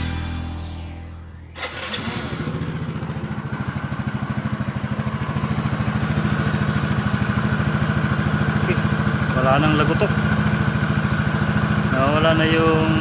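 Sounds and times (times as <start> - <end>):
scooter engine starting and idling: 1.5 - 13.0.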